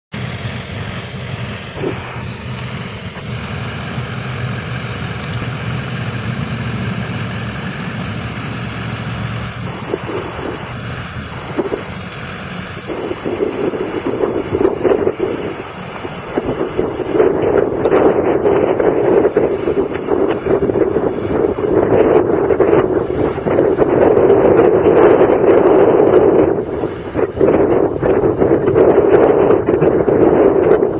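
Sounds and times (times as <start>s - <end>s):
diesel engine idling: 0.1s - 28.7s
wind buffeting microphone: 0.2s - 30.9s.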